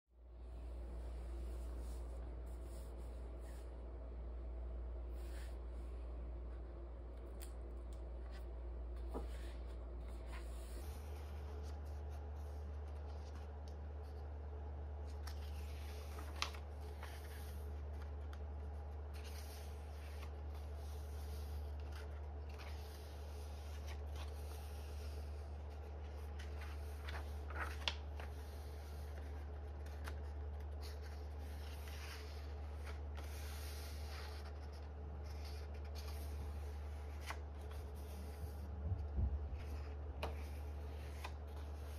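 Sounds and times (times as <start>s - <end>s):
steady low hum: 0.2s - 41.9s
paper pages turning: 5.1s - 41.9s.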